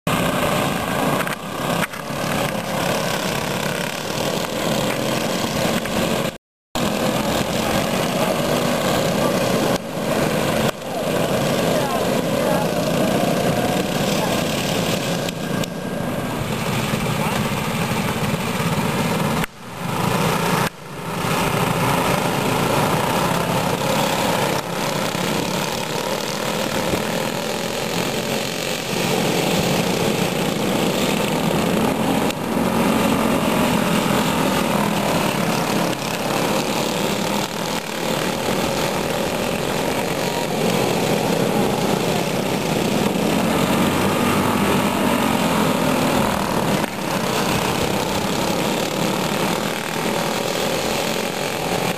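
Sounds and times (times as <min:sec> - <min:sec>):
kart engines buzzing: 0:00.1 - 0:51.9.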